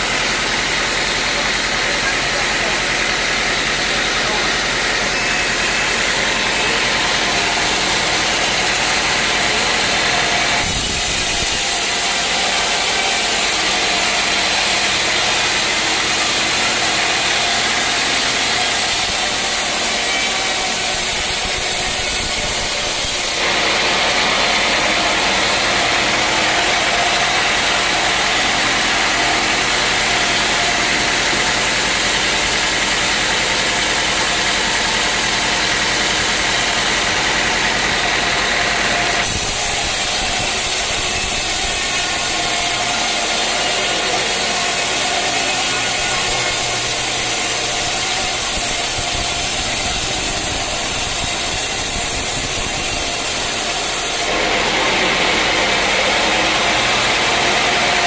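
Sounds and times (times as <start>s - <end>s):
sawmill sawing through a log: 0.0s - 58.0s.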